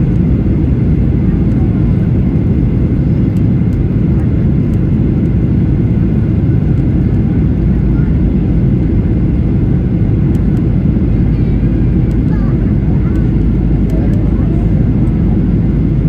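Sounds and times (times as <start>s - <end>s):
jet airliner landing rumble: 0.0s - 16.0s.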